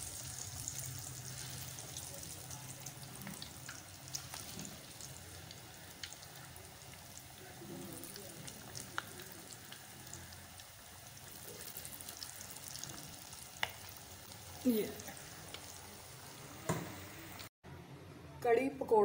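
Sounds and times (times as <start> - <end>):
deep-frying sizzle with pops: 0.0 - 17.5.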